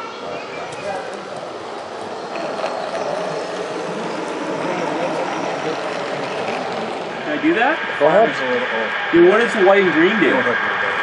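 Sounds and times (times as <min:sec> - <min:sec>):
faint voices: 0:00.0 - 0:11.0
model train rolling on track: 0:00.6 - 0:11.0.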